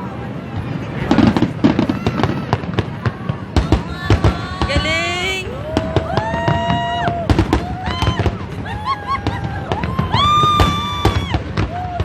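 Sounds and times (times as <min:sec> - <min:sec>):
firework bangs and crackles: 0:00.0 - 0:12.0
rising firework whistles: 0:01.1 - 0:12.0.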